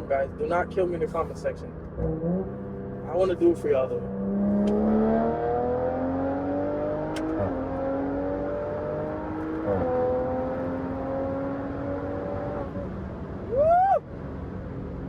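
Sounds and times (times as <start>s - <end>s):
car engine accelerating hard: 0.1s - 15.0s.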